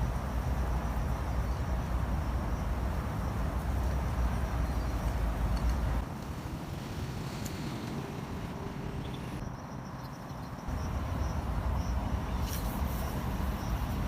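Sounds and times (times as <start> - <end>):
outdoor hiss: 0.0 - 14.0.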